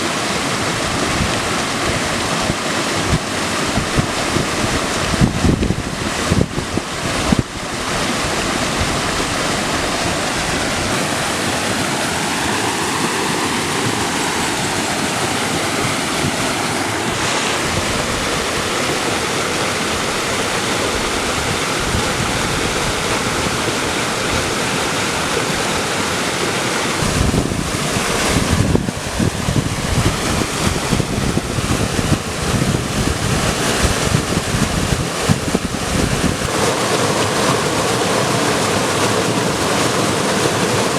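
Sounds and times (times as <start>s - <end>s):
running water: 0.0s - 40.9s
wind buffeting microphone: 0.8s - 11.2s, 13.8s - 25.8s, 27.0s - 38.0s.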